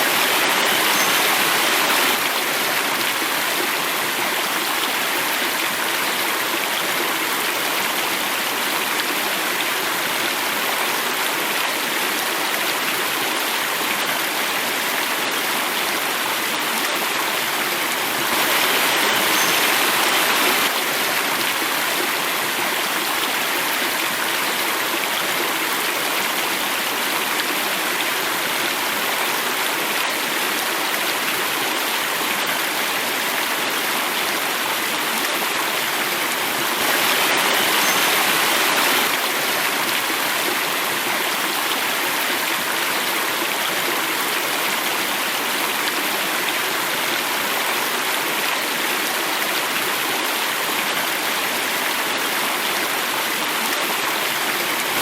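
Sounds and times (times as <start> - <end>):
water rushing over a cascade: 0.0 - 55.0.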